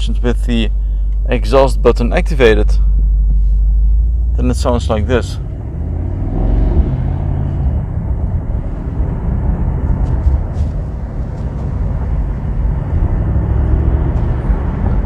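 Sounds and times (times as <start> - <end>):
car engine exhaust rumble: 0.0 - 15.0.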